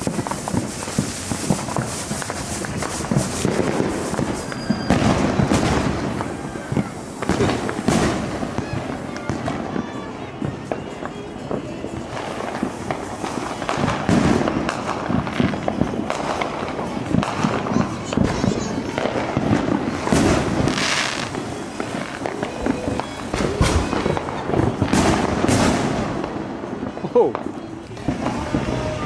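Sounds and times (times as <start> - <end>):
fireworks popping and banging: 0.0 - 29.0
hissing crackles of fireworks: 0.0 - 29.0.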